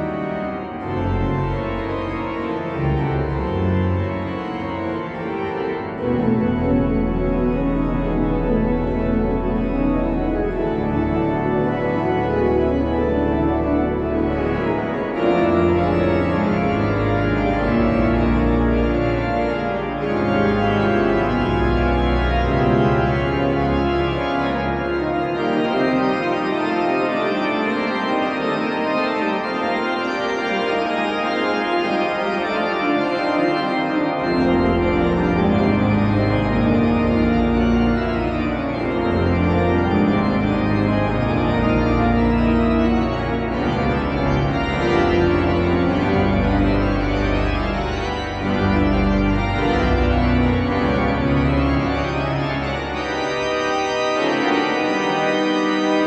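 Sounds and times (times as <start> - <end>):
deep organ pedal bass: 0.0 - 56.0
pipe organ full chords: 0.0 - 56.0.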